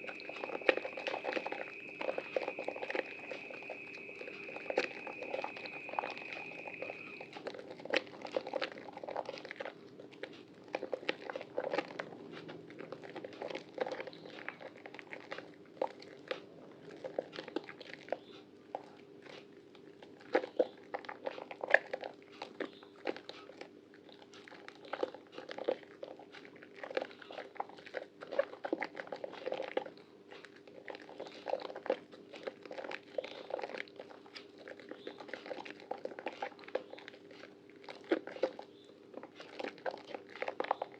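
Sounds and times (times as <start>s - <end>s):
wet squelching of lathered soap: 0.0s - 40.9s.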